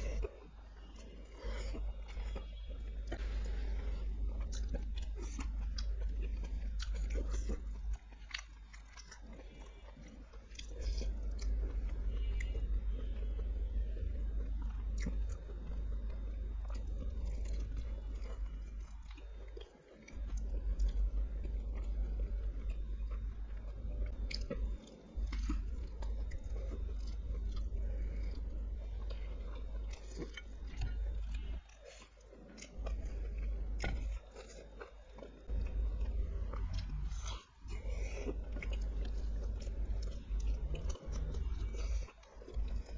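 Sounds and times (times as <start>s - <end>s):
low rumble: 0.0s - 9.8s, 10.5s - 42.9s
low hum: 0.0s - 42.9s
person chewing food: 0.0s - 42.9s.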